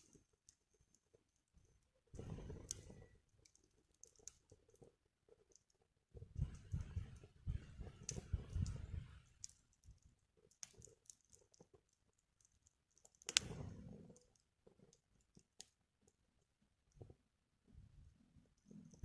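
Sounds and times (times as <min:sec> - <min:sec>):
wood fire crackling: 0:00.0 - 0:16.2.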